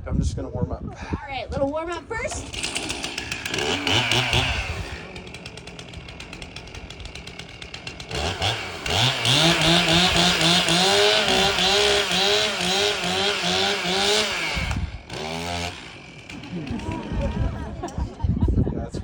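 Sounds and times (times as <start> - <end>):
chainsaw idling and revving: 2.3 - 18.0.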